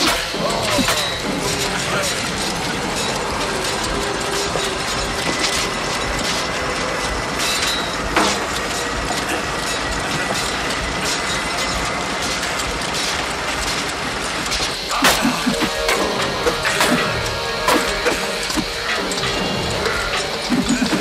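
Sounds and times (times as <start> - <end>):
machinery clattering and hissing: 0.0 - 21.0.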